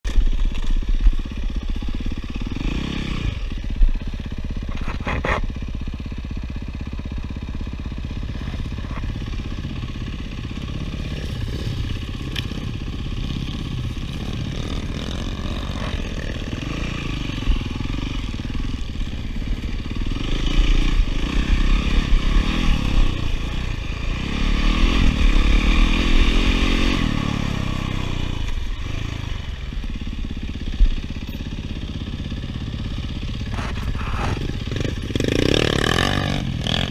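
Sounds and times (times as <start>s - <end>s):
dirt bike engine revving: 1.5s - 5.6s, 7.4s - 31.0s, 31.6s - 36.9s.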